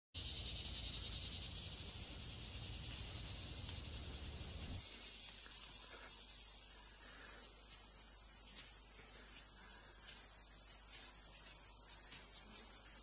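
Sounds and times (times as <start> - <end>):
insect chorus chirring: 0.2 - 13.0.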